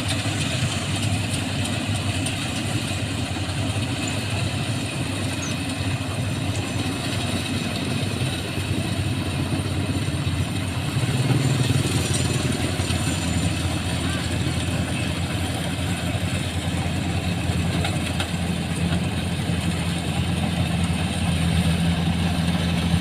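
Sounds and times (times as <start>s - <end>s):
harvester engine running: 0.0s - 23.0s.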